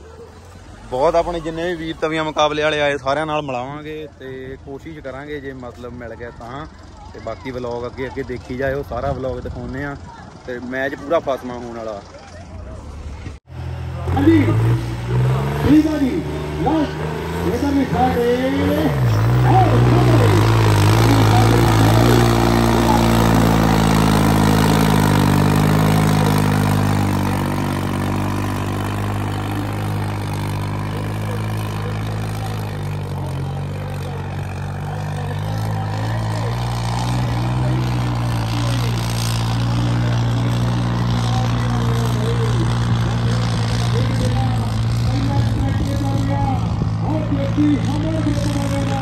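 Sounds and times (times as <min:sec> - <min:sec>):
heavy engine running: 0:00.0 - 0:49.0.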